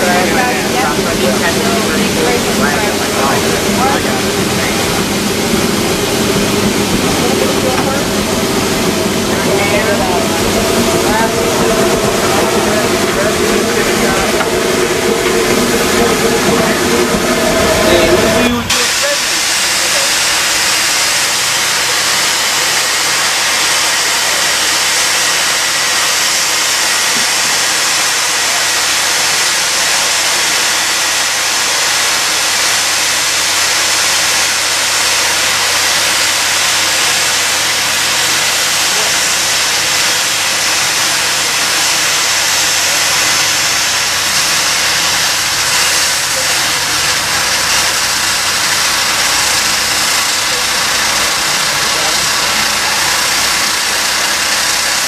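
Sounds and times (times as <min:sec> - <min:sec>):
steam locomotive hissing steam: 0:00.0 - 0:55.0.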